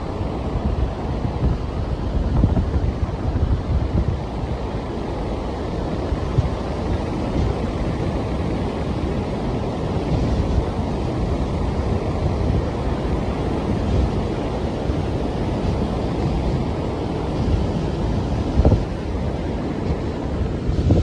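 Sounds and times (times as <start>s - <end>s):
ocean surf washing: 0.0s - 21.0s
wind buffeting microphone: 0.0s - 21.0s.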